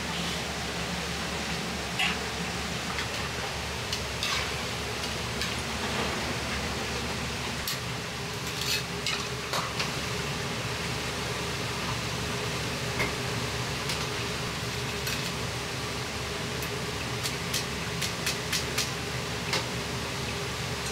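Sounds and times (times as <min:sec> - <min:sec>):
kitchen roar: 0:00.0 - 0:20.9
hot oil sizzling: 0:02.0 - 0:20.9.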